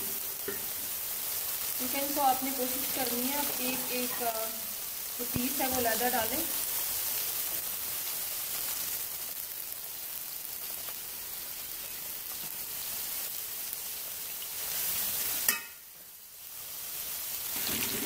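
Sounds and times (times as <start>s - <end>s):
chicken deep-frying in oil: 0.0s - 18.0s.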